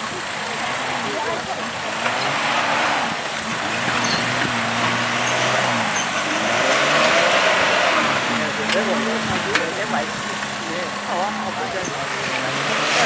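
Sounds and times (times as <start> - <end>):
four-wheel drive engine at low revs: 0.0 - 13.0.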